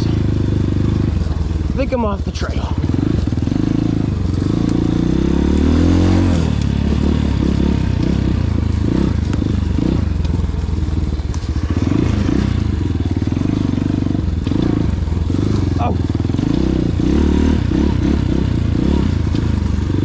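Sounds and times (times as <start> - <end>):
dirt bike engine revving: 0.0 - 20.0
clatter: 2.6 - 20.0.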